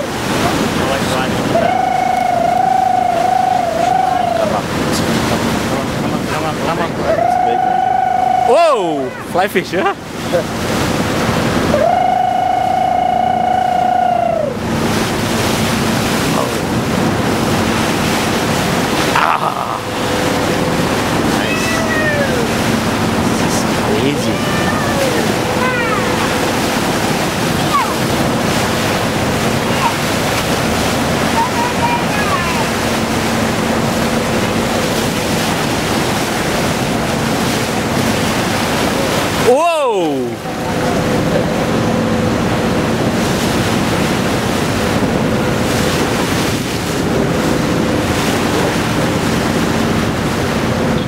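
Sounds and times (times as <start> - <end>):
wind buffeting microphone: 0.0 - 39.5, 40.2 - 51.0
seawater rushing along hull: 0.0 - 51.0.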